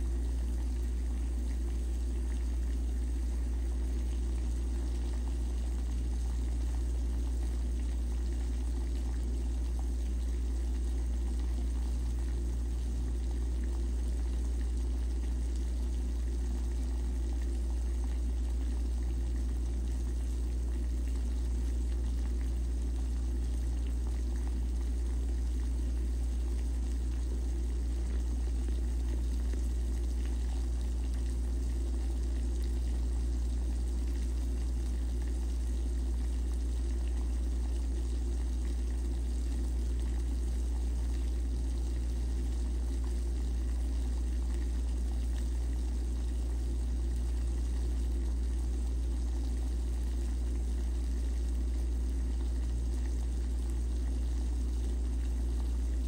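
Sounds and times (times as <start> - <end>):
gas stove low rumble: 0.0 - 56.0
water boiling and bubbling: 0.0 - 56.0.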